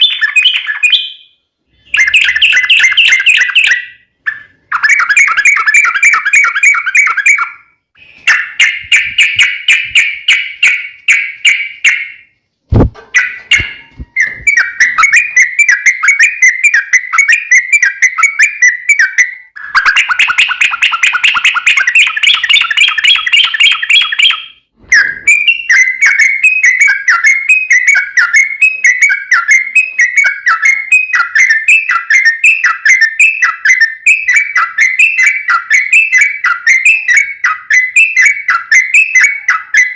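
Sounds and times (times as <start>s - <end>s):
bulbul song chattering: 0.0s - 39.9s.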